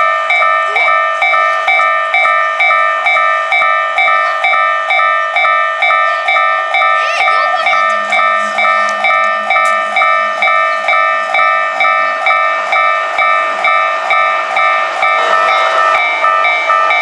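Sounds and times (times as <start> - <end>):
level crossing warning bell: 0.0 - 17.0
train rushing past: 0.0 - 17.0.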